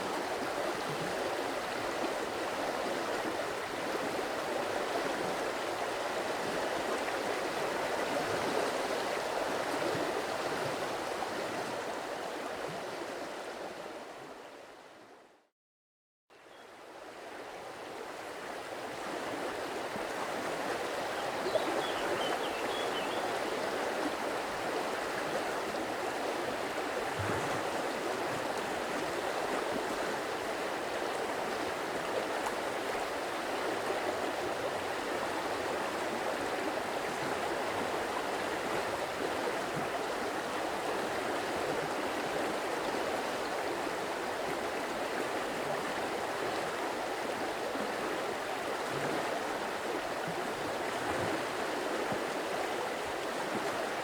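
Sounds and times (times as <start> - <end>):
stream water running: 0.0 - 14.5, 16.5 - 54.0.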